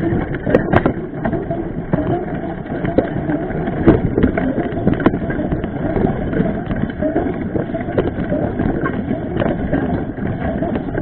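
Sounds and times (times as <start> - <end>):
bike tyres rumbling on dirt trail: 0.0 - 11.0.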